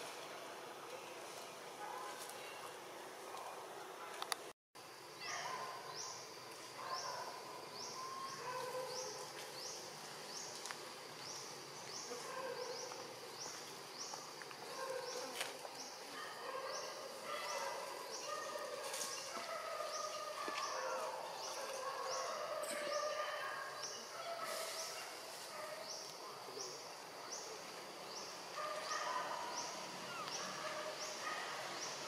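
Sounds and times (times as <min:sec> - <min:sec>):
forest background: 0:00.0 - 0:32.0.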